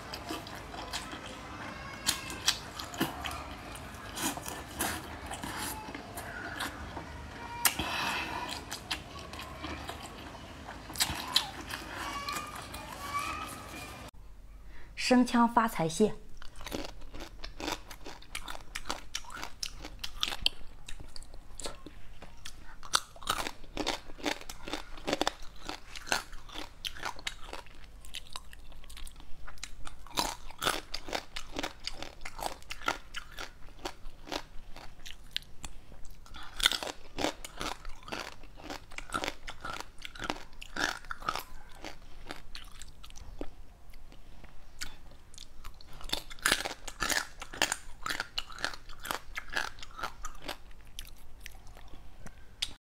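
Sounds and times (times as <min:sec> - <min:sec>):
crab shells crunching in chewing: 0:00.0 - 0:13.1, 0:16.4 - 0:52.0.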